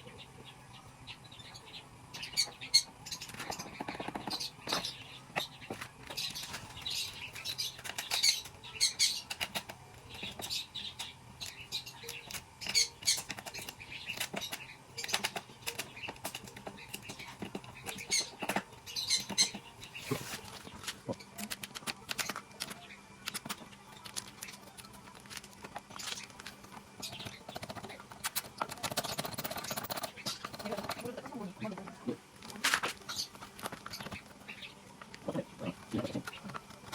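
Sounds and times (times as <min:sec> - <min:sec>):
budgerigars chirping and chattering: 0:00.0 - 0:25.1, 0:25.7 - 0:32.3, 0:32.9 - 0:36.9
scratches and clicks: 0:02.3 - 0:36.9.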